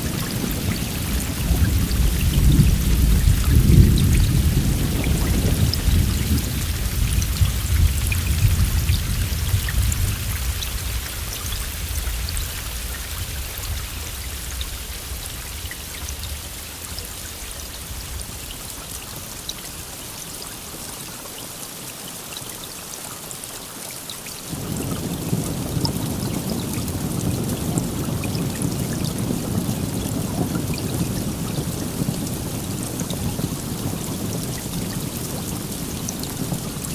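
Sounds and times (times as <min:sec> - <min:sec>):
thunder rumbling: 0:00.0 - 0:19.0, 0:24.5 - 0:36.9
rain pattering: 0:00.0 - 0:36.9.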